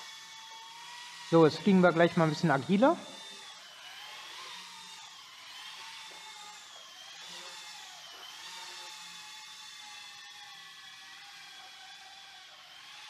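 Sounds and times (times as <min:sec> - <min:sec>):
rc helicopter whining: 0:00.0 - 0:13.0.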